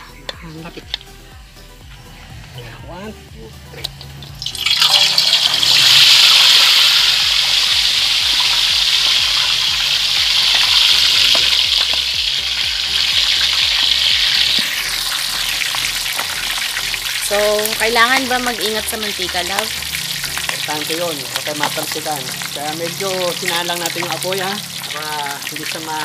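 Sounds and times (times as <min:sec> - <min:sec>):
meat sizzling in hot oil: 0:03.8 - 0:26.0.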